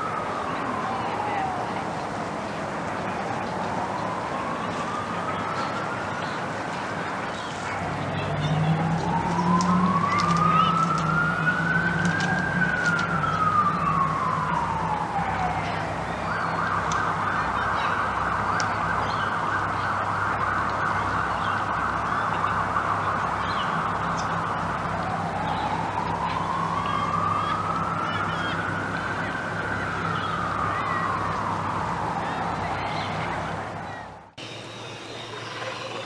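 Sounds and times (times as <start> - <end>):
emergency siren wailing and yelping: 0.0 - 34.4.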